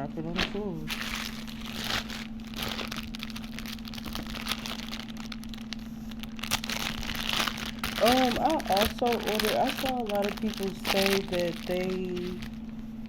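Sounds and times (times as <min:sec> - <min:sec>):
plastic packaging crinkling: 0:00.3 - 0:12.8.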